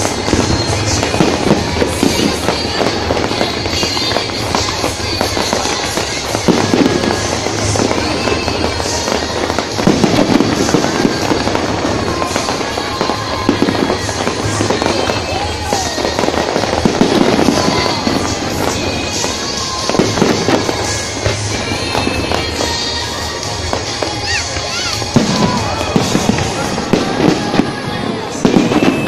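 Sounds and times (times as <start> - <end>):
fireworks bursting and crackling: 0.0 - 29.0
music: 0.0 - 29.0.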